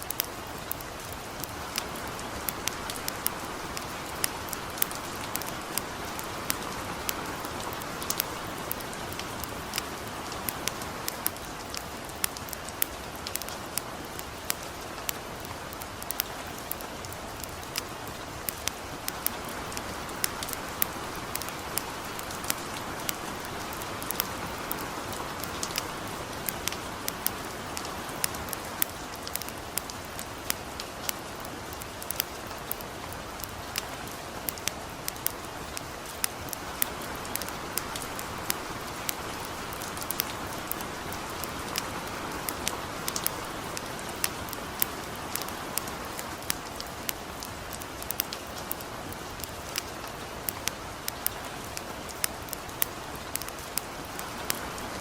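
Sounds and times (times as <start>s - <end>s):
campfire crackling and popping: 0.0s - 55.0s
light rain hissing: 0.0s - 55.0s.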